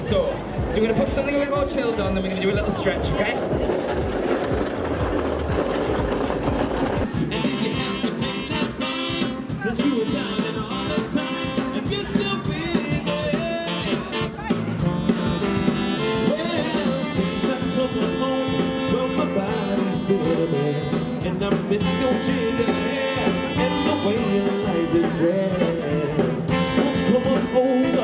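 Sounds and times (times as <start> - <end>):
background music: 0.0 - 28.0
brass band with drum kit: 0.0 - 28.0.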